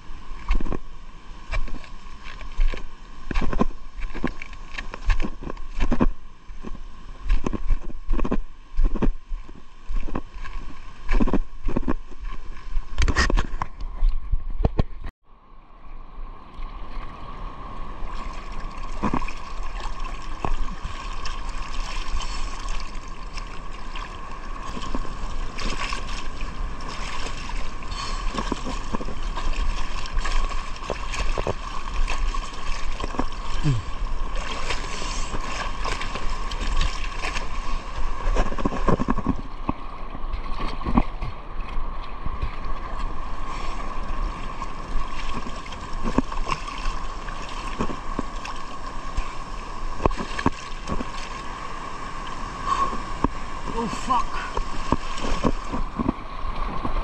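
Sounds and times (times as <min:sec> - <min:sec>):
water noise: 0:00.0 - 0:57.0
wind: 0:00.0 - 0:57.0.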